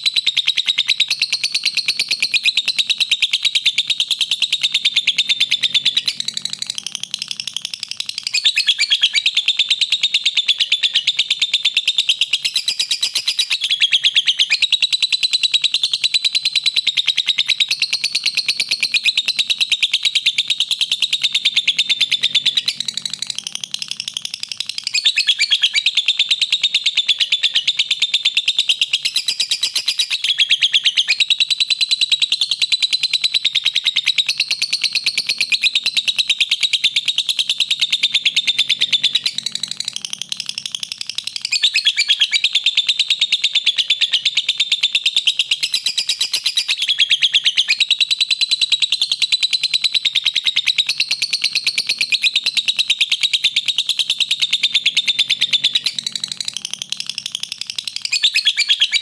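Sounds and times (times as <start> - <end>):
lovebird chattering: 0.0 - 59.0.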